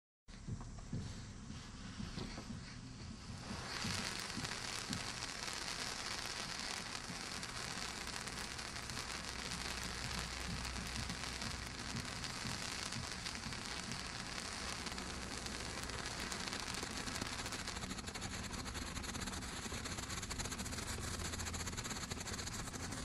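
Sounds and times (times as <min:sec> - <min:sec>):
small crackles: 0:00.3 - 0:23.0
firework fountain hissing: 0:00.8 - 0:23.0.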